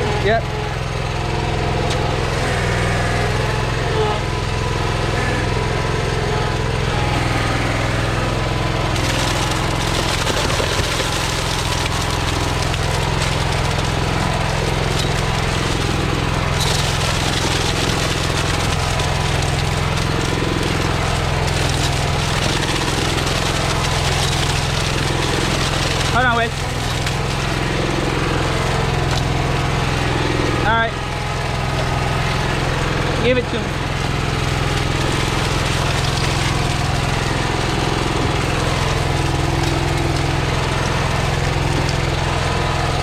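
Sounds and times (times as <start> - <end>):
small engine running: 0.0 - 43.0.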